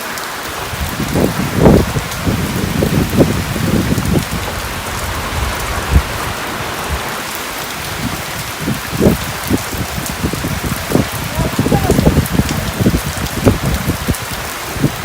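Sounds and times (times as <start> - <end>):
heavy rain falling: 0.0 - 15.0
wind rumbling on microphone: 0.4 - 15.0.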